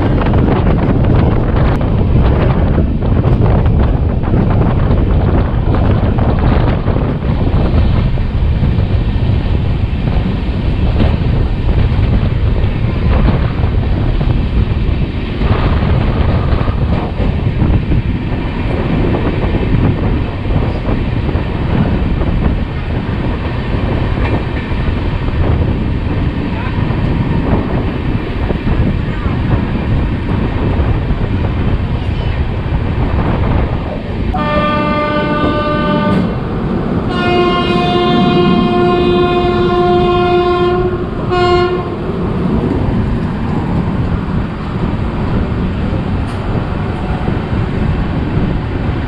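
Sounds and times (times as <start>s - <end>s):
passing train: 0.0s - 49.0s
train wheels rattling on rails: 0.0s - 49.0s
wind buffeting microphone: 0.0s - 49.0s.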